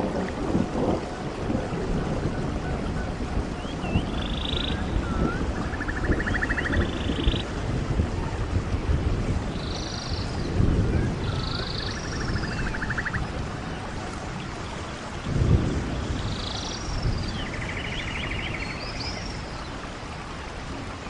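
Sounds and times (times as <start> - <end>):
rain or falling water rushing: 0.0 - 21.0.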